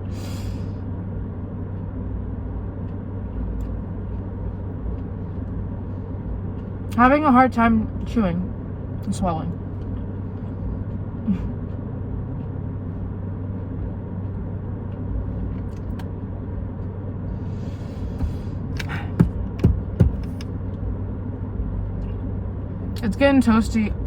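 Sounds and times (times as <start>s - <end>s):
car engine idling: 0.0s - 24.0s
low hum: 0.0s - 24.0s.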